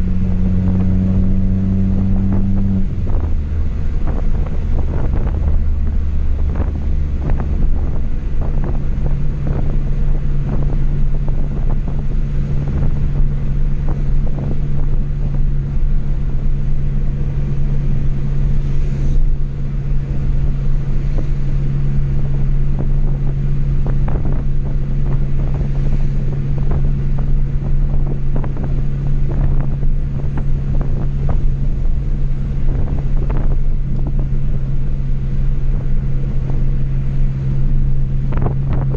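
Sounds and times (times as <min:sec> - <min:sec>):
loud car engine: 0:00.0 - 0:38.9
road noise: 0:00.0 - 0:38.9.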